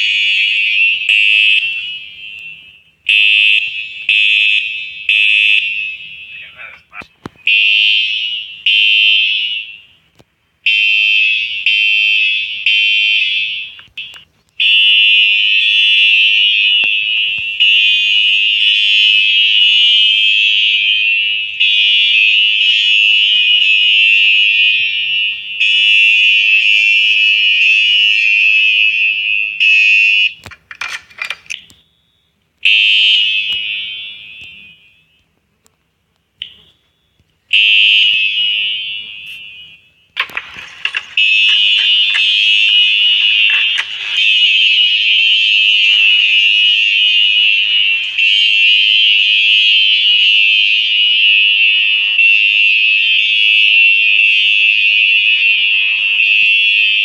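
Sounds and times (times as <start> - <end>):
fire alarm high-pitched tone: 0.0 - 6.8, 7.4 - 30.4, 31.5 - 35.3, 36.4 - 57.0.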